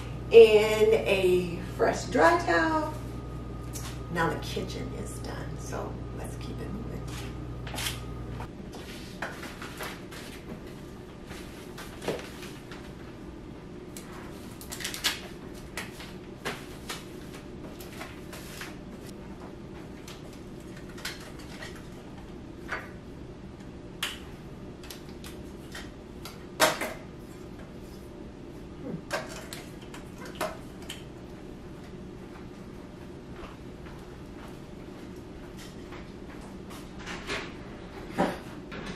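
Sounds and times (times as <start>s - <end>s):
low background hum: 0.0s - 38.9s.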